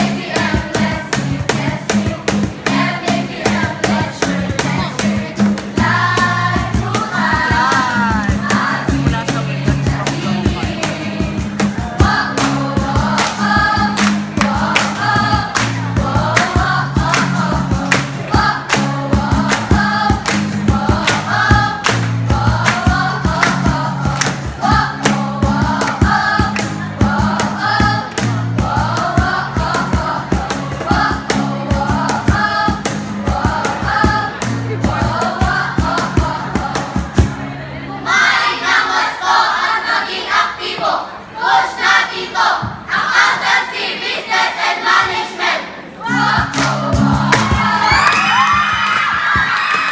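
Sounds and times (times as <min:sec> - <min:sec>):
accompaniment with steady beat: 0:00.0 - 0:37.6, 0:46.1 - 0:49.6
group singing a jingle: 0:00.0 - 0:48.0.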